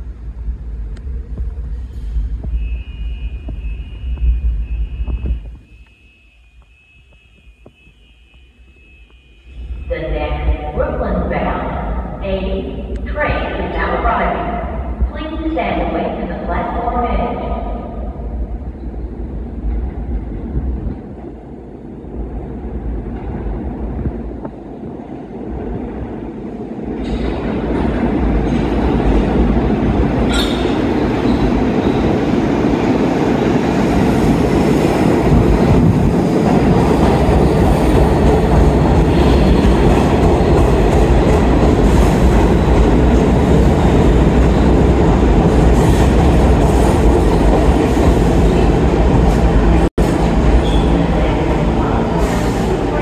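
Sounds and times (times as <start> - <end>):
subway train rumbling: 0.0 - 53.0.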